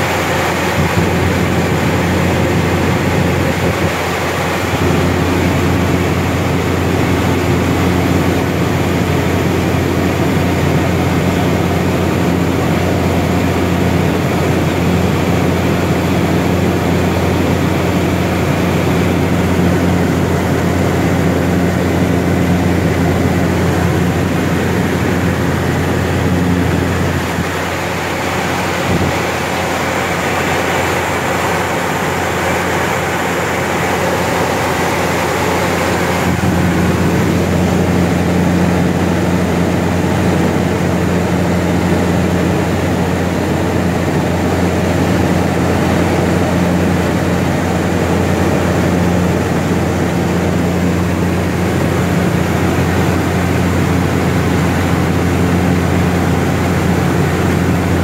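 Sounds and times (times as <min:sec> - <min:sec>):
turboprop engine drone: 0:00.0 - 0:58.0.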